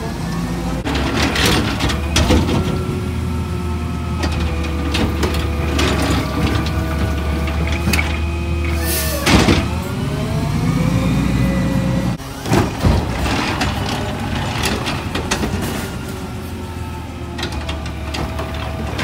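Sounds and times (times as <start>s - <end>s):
garbage truck engine humming: 0.0s - 19.0s.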